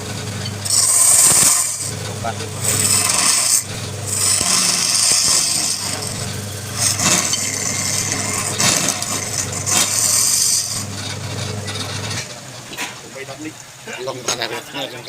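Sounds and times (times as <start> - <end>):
turning tool scraping wood: 0.0 - 13.0
lathe motor hum: 0.0 - 13.3.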